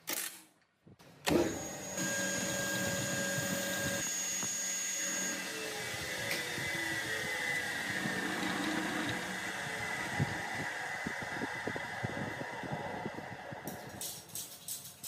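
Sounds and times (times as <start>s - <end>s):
machine motor whining: 1.3s - 14.0s.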